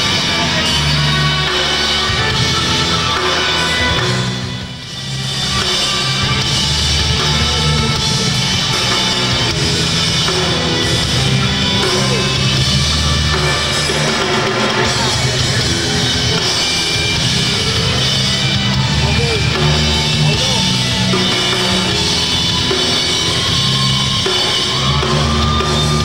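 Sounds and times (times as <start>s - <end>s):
drum kit: 0.0s - 26.0s
electric bass: 0.0s - 26.0s
electric guitar: 0.0s - 26.0s.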